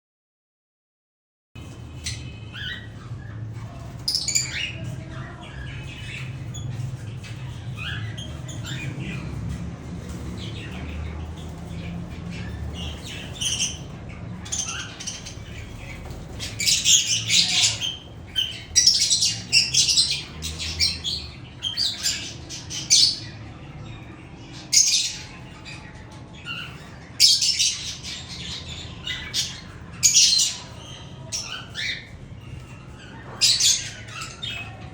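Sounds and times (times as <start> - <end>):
birds squawking and chirping: 1.6 - 34.9.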